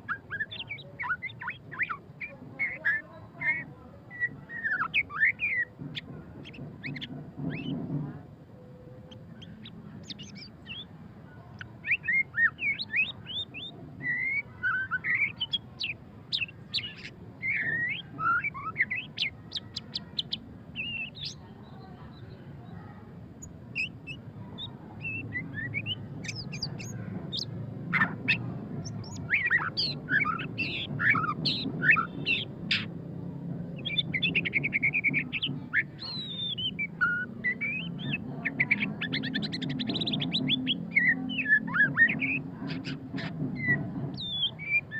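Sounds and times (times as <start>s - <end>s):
bird singing whistles and trills: 0.0s - 7.7s, 11.6s - 21.4s, 23.7s - 32.9s, 33.8s - 44.9s.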